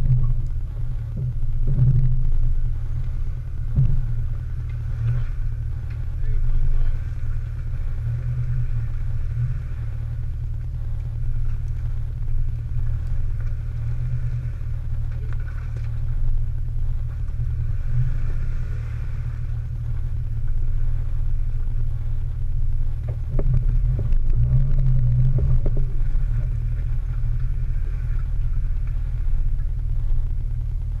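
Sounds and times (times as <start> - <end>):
off-road vehicle engine rumbling: 0.0 - 31.0.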